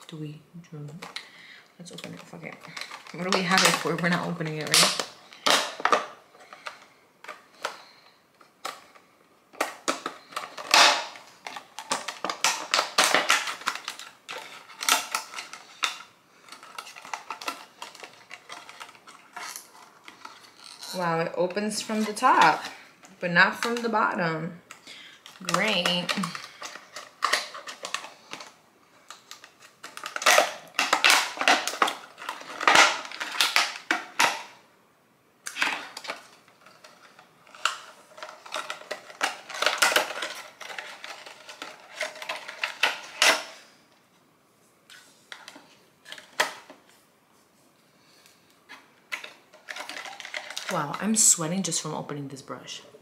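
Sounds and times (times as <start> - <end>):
cardboard and plastic crinkling: 0.8 - 34.6, 35.5 - 44.1, 44.8 - 47.6, 48.6 - 51.8
packaging tearing and rustling: 1.8 - 22.9, 24.7 - 34.6, 35.4 - 43.8, 44.9 - 46.9, 48.7 - 51.4.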